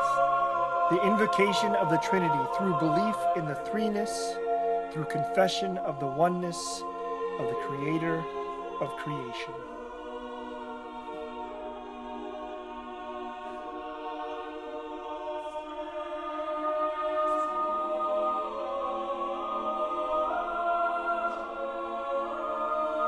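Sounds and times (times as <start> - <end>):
slow sustained chord music: 0.0 - 23.0.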